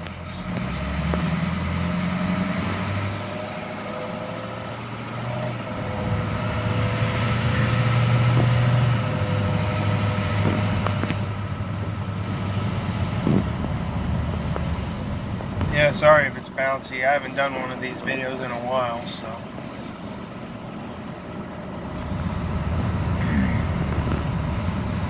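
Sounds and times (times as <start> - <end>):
road noise inside cab: 0.0 - 25.0
truck engine accelerating: 0.0 - 25.0.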